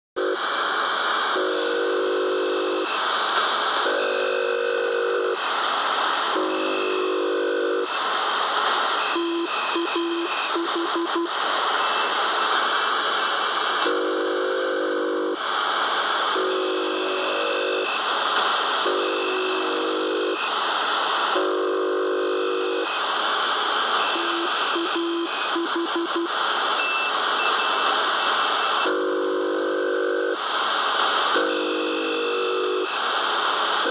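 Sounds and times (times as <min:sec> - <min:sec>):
radio static hiss: 0:00.2 - 0:33.9.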